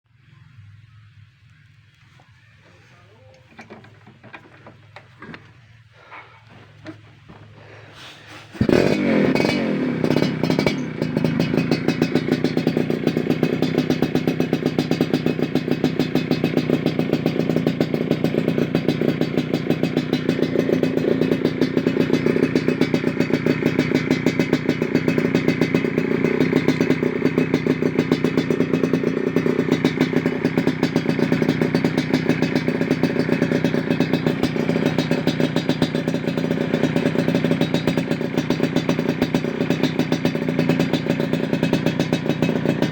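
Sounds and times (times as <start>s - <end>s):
two-stroke engine idling: 0.1s - 42.9s.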